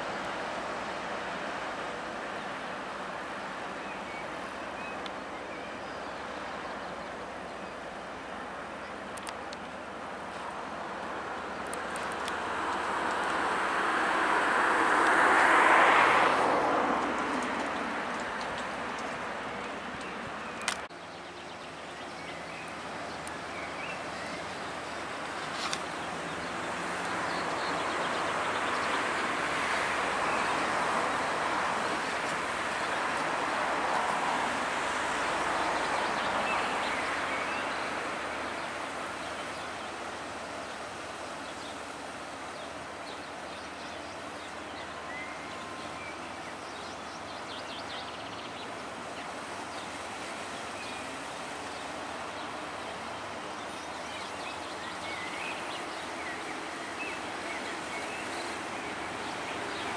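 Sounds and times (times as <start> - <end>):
steady outdoor noise: 0.0 - 59.9.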